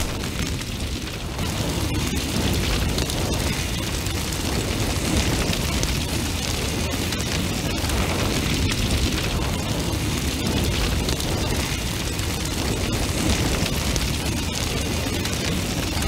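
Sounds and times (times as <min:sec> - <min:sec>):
fire burning: 0:00.0 - 0:16.0
light crackles: 0:00.0 - 0:16.0.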